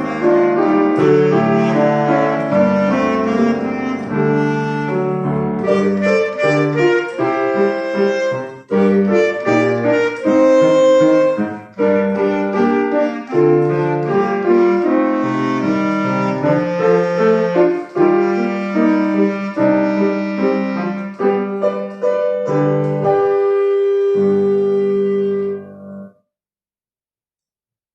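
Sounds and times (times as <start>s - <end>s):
wind instrument melody: 0.0s - 26.1s
piano accompaniment: 0.0s - 26.3s.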